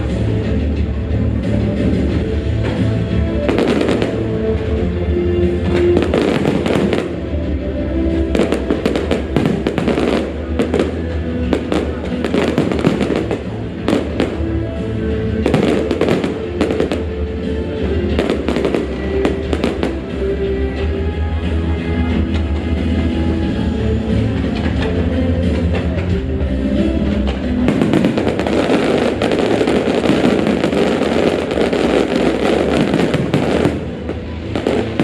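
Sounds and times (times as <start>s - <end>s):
fireworks bursting and crackling: 0.0s - 20.9s, 26.9s - 35.0s
loud music: 0.0s - 35.0s.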